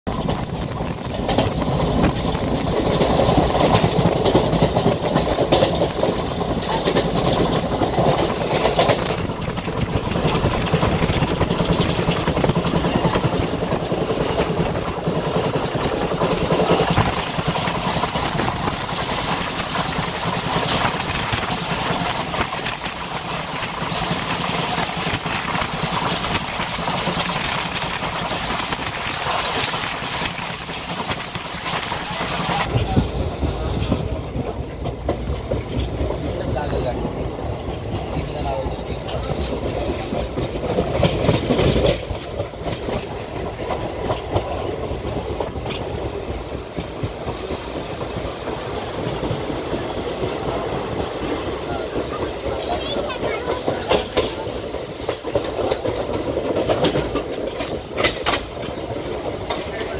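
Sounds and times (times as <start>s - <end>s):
train coach rumble and rattle: 0.0s - 59.9s
wheels clattering over rails: 0.1s - 59.9s.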